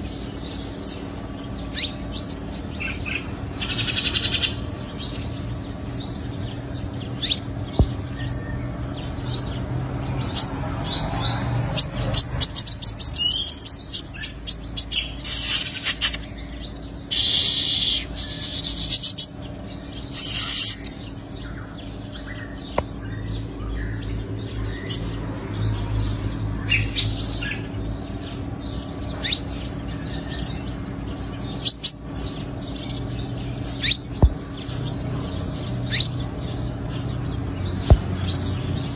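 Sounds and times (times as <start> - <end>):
bird trill: 0.0 - 38.9
birds chirping and singing: 0.0 - 38.9
buzzy bird chattering: 0.0 - 38.9.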